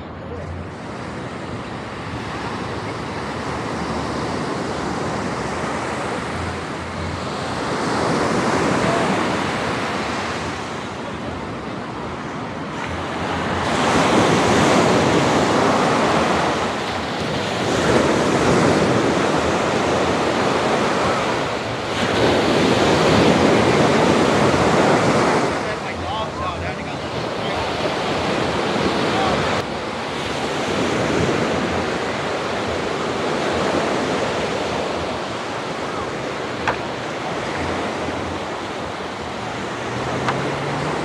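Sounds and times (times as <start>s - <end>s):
small waves breaking on beach: 0.0s - 41.0s.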